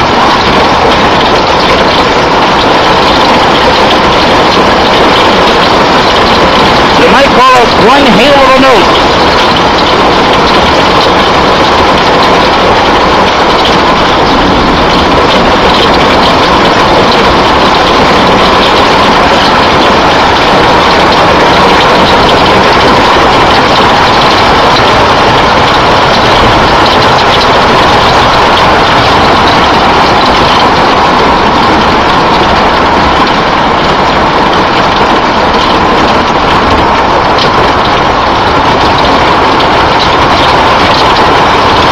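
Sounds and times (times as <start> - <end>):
heavy rain downpour: 0.0 - 41.9.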